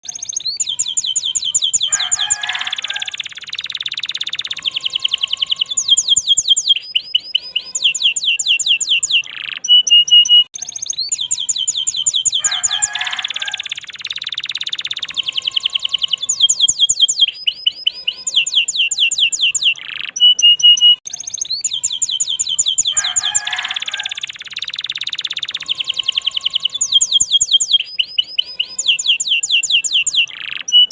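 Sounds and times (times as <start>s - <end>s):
canary singing trills: 0.0s - 30.9s.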